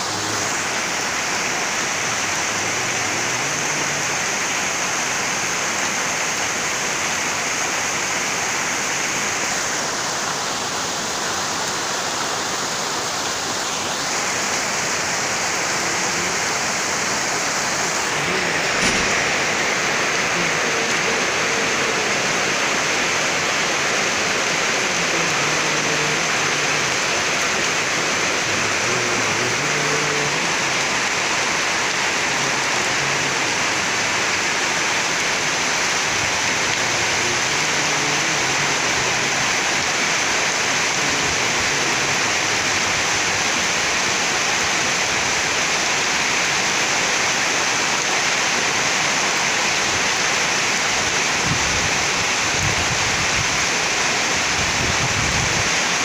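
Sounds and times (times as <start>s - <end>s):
rainwater pouring and splashing: 0.0s - 56.0s.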